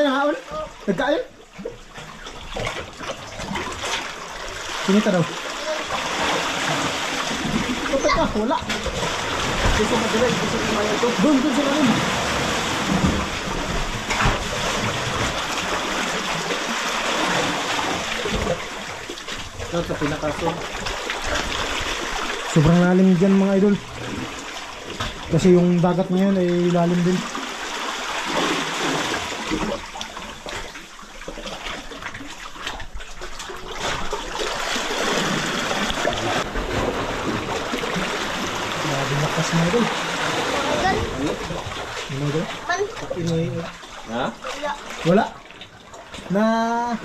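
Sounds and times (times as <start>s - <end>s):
sea water washing and splashing: 0.0s - 47.0s.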